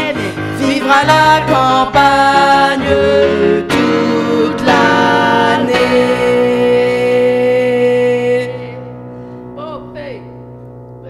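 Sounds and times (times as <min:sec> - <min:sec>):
digital piano: 0:00.0 - 0:11.0.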